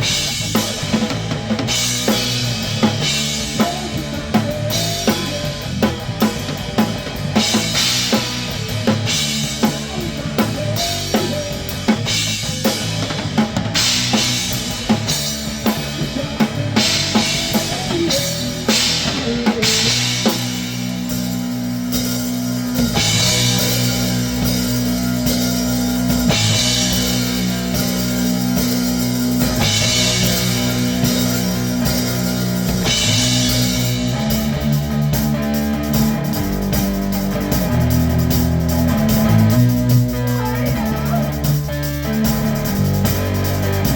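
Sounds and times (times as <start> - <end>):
distorted guitar and bass chords: 0.0 - 43.9
drum kit playing: 0.0 - 43.9.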